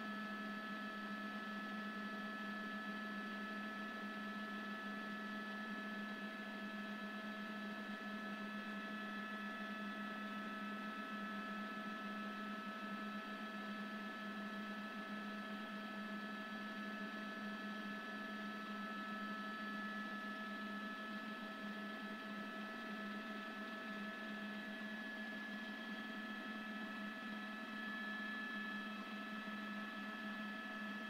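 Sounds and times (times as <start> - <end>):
low mechanical hum with tones: 0.0 - 31.0.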